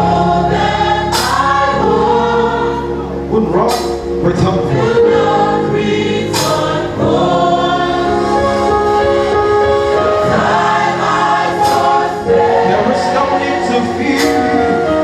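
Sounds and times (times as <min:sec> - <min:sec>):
gospel choir singing: 0:00.0 - 0:15.0.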